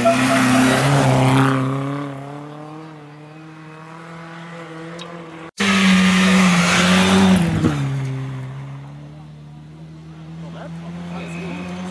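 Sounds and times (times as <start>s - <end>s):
rally car engine driving away: 0.0s - 11.9s
rally car engine passing by: 0.0s - 11.9s.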